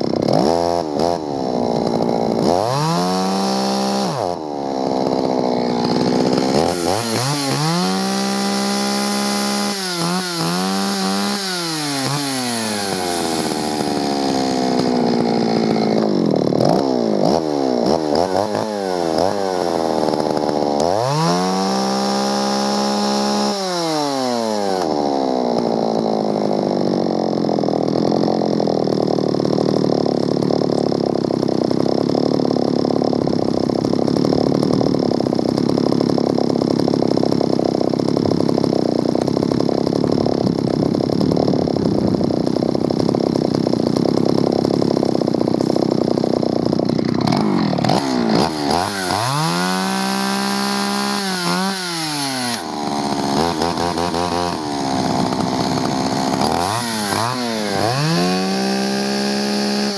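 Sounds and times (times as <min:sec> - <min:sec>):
chainsaw idling: 0:00.0 - 0:59.9
chainsaw revving: 0:00.0 - 0:59.9.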